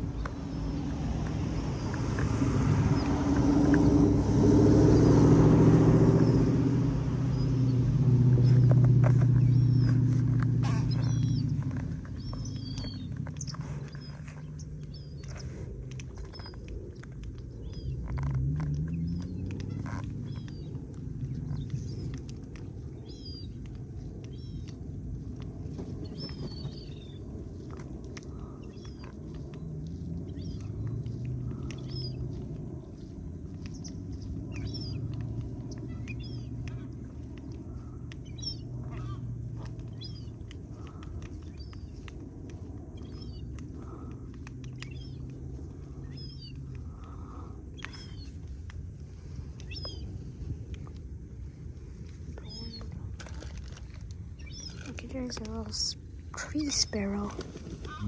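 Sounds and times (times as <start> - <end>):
birds chirping: 0.0 - 58.0
steady low hum: 0.0 - 58.0
steady low rumble: 0.0 - 58.0.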